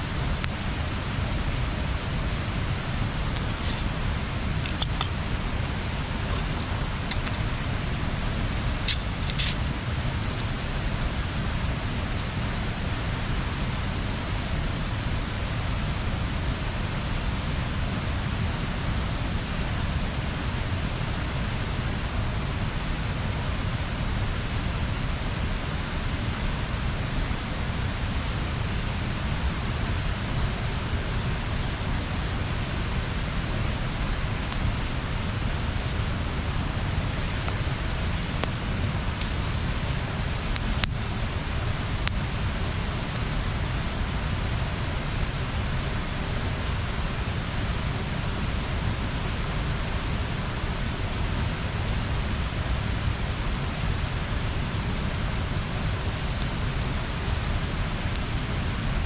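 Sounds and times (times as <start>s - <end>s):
faint fire crackles: 0.0s - 59.0s
rumbling rush of bonfire flame: 0.0s - 59.0s.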